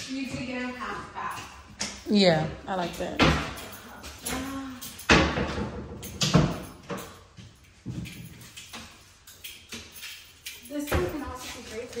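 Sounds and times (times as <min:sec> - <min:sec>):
doors opening and shutting: 0:01.8 - 0:11.5.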